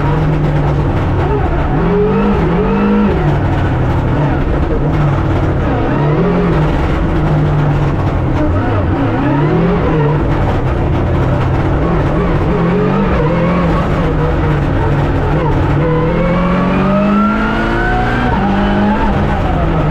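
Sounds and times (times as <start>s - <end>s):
rally car engine revving: 0.0s - 19.9s.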